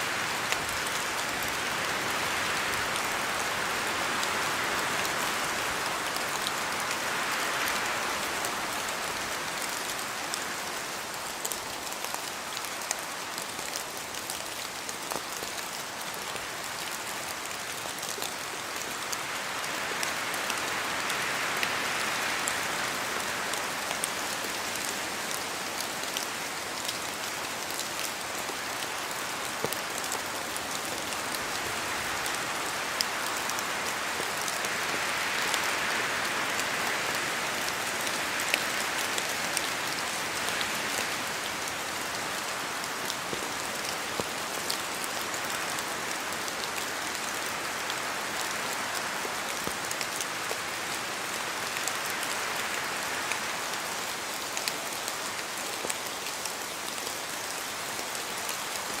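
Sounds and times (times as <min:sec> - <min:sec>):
steady rain in forest: 0:00.0 - 0:59.0.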